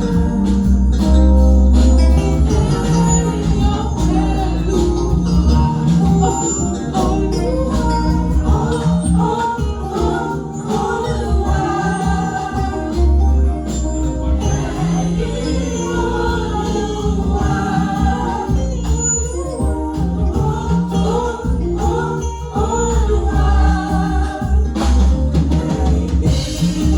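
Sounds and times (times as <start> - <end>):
choir singing gospel: 0.0 - 26.9
instrumental accompaniment: 0.0 - 26.9.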